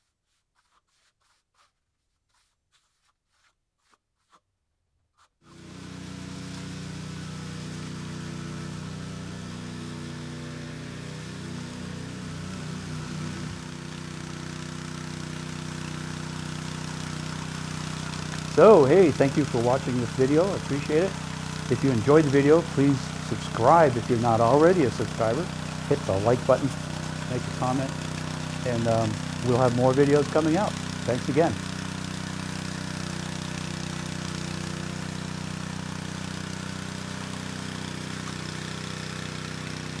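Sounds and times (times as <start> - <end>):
small gasoline engine running: 5.5 - 40.0.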